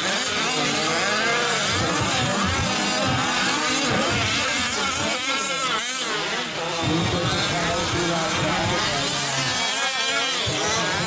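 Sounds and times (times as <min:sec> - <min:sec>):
small two-stroke engines buzzing: 0:00.0 - 0:11.0.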